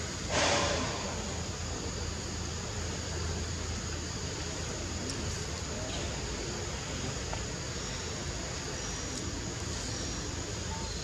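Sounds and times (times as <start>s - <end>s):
even hiss: 0.0s - 10.7s.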